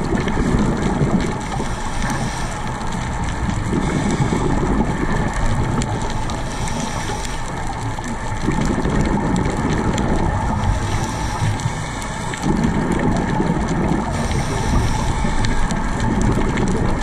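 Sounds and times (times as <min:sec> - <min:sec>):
underwater exhaled bubbles rumble: 0:00.0 - 0:17.0
faint clicks: 0:00.1 - 0:17.0.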